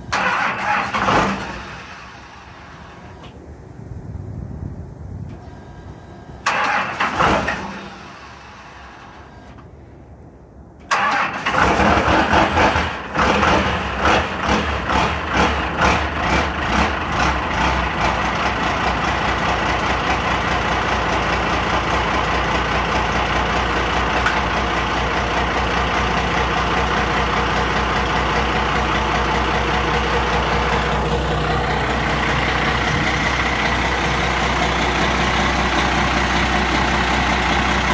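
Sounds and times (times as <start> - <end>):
diesel engine starting and idling: 0.0 - 3.4, 5.3 - 37.9.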